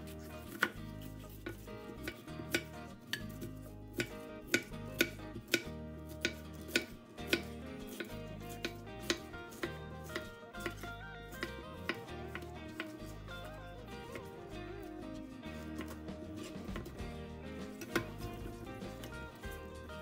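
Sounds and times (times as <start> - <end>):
background music: 0.0 - 20.0
knife chopping on wooden board: 0.2 - 13.1, 15.6 - 19.7.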